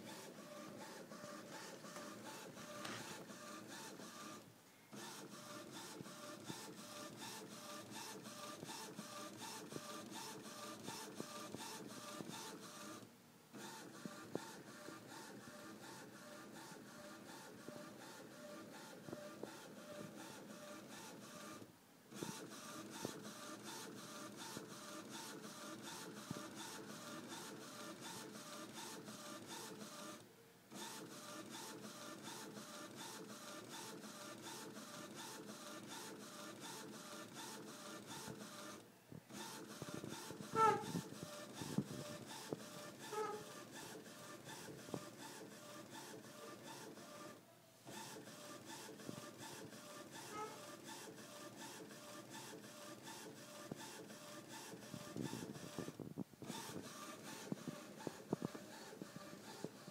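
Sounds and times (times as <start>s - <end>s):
printer chirp: 0.0s - 13.0s, 13.6s - 21.6s, 22.2s - 59.9s.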